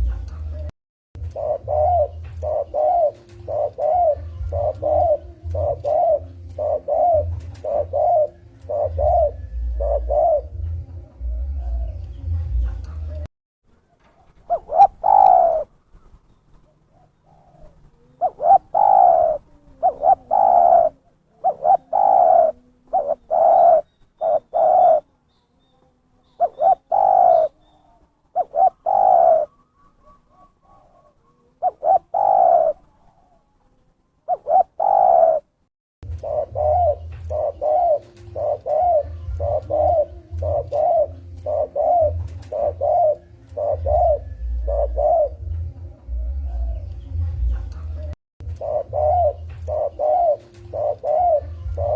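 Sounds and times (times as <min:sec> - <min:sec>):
dove cooing: 0:00.0 - 0:13.3, 0:14.0 - 0:51.9.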